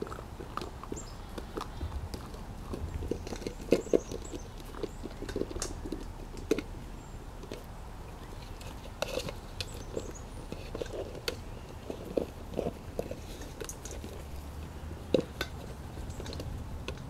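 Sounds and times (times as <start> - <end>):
puppies chewing plastic container: 0.0 - 17.0.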